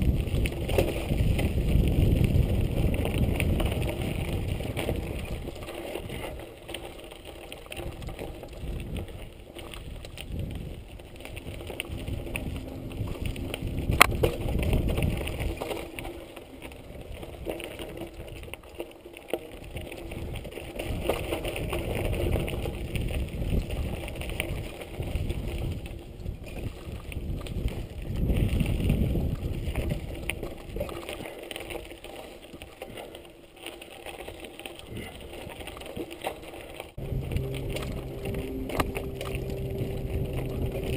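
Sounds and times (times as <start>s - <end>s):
wind rumbling on microphone: 0.0s - 33.2s, 34.0s - 40.9s
bike rattling over bumps: 0.0s - 40.9s
bike tyres rolling over dirt: 0.0s - 40.9s.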